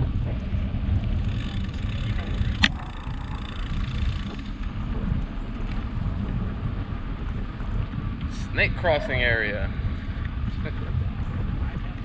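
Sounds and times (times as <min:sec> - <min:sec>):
bicycle road noise: 0:00.0 - 0:12.0
wind on microphone: 0:00.0 - 0:12.0.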